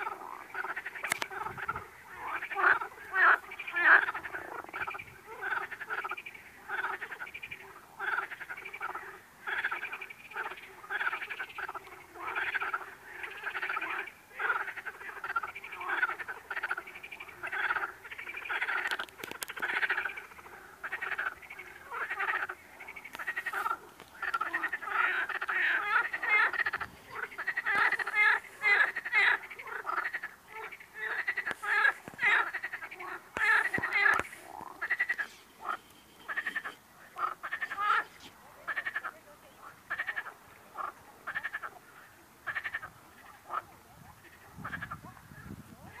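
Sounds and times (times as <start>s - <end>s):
frogs croaking: 0.0s - 46.0s.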